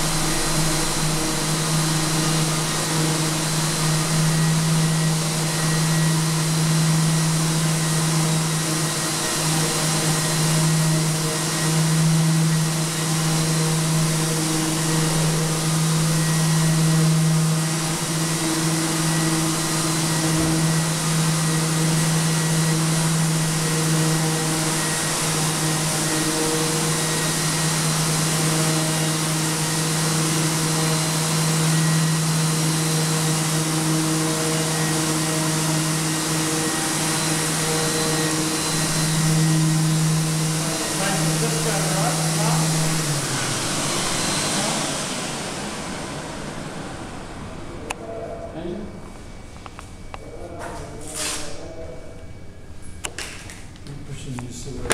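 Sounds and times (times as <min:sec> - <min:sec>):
sander hiss on wall: 0:00.0 - 0:47.9, 0:49.2 - 0:51.9
dust extractor and sander hum: 0:00.0 - 0:54.9.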